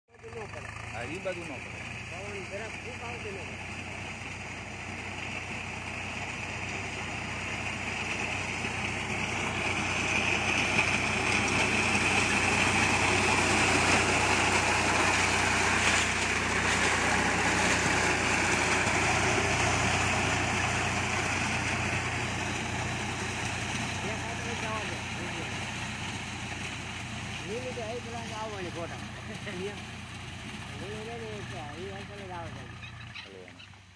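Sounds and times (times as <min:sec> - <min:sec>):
tractor engine running: 0:00.1 - 0:33.9
reaper cutting through crop: 0:00.8 - 0:32.8.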